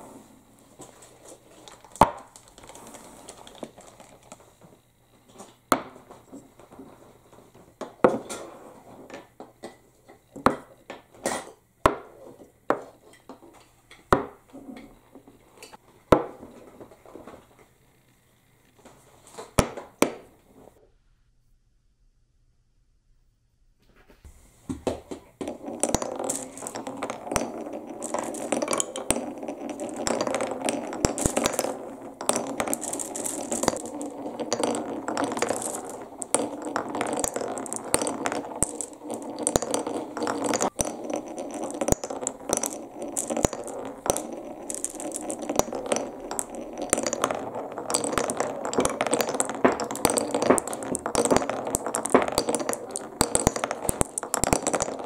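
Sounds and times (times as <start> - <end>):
balls rolling on wooden marble run: 0.7 - 17.5, 24.7 - 55.0.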